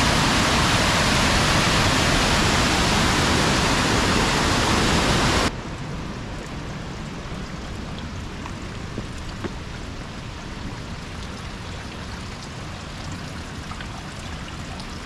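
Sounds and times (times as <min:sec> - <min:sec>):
water rushing through rapids: 0:00.0 - 0:15.0.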